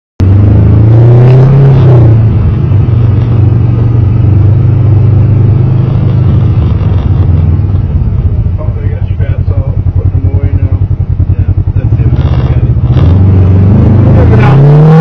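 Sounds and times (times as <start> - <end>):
utv engine droning: 0.2 - 15.0.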